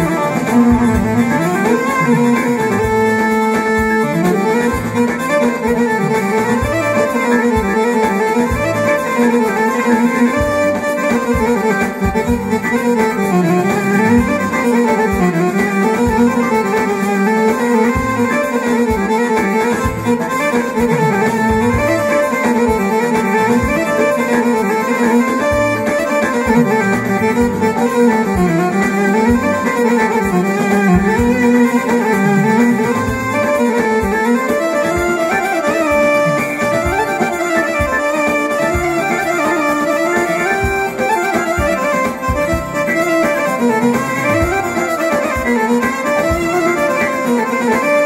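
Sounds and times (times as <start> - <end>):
electronic keyboard melody: 0.0 - 48.0
steady beat: 0.0 - 48.0.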